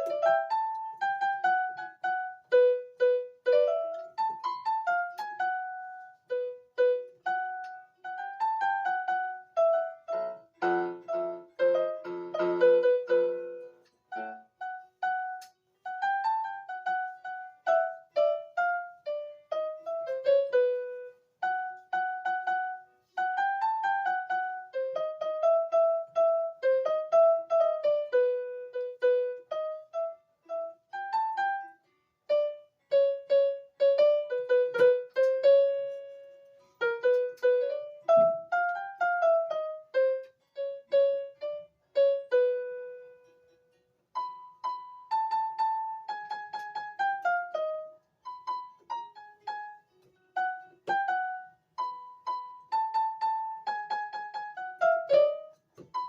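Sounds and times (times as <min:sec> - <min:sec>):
keyboard chords: 0:00.0 - 0:56.0
keyboard piano melody: 0:00.0 - 0:56.0.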